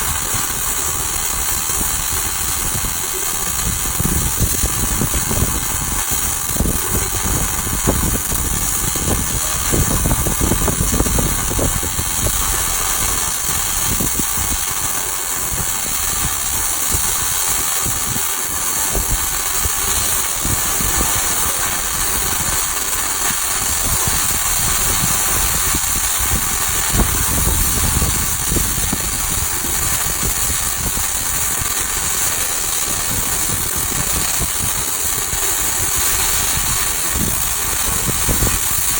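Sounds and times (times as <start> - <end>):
arc welding crackling hiss: 0.0 - 38.9.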